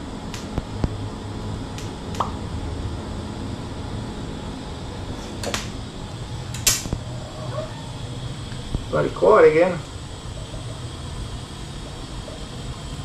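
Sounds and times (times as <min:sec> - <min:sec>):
welding arc hissing: 0:00.0 - 0:02.6, 0:03.4 - 0:13.0.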